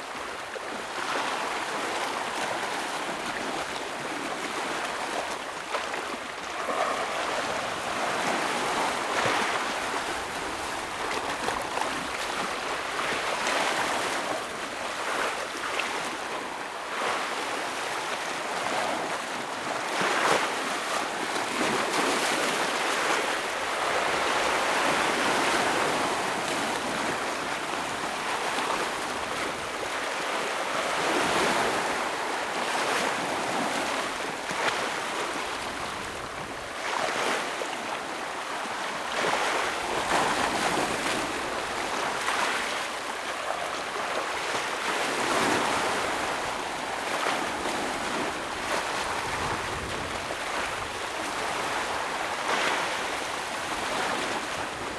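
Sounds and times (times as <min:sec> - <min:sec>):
ocean waves breaking on rocks: 0:00.1 - 0:54.9.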